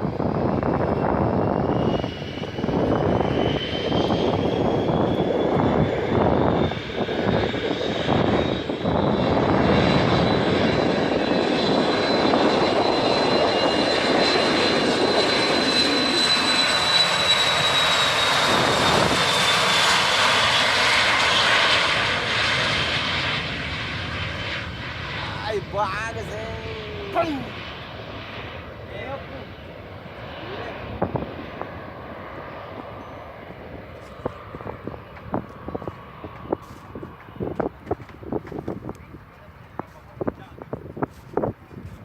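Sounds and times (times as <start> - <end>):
jet engines roaring: 0.0 - 42.0.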